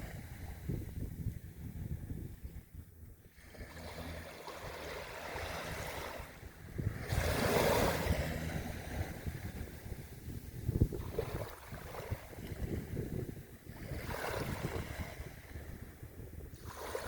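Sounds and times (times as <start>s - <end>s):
wind rumbling on microphone: 0.0s - 17.0s
ocean waves washing onto beach: 3.3s - 17.0s.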